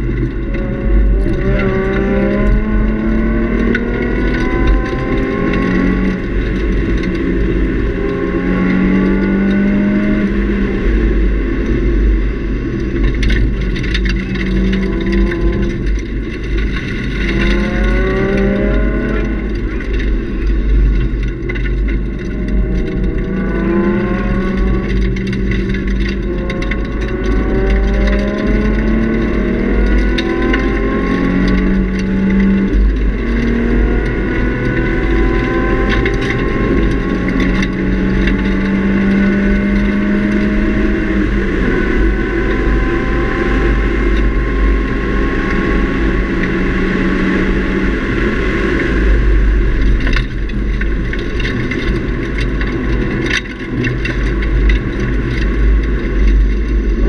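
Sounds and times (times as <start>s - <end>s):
car engine accelerating: 0.0s - 57.0s
road and wind rumble: 0.0s - 57.0s.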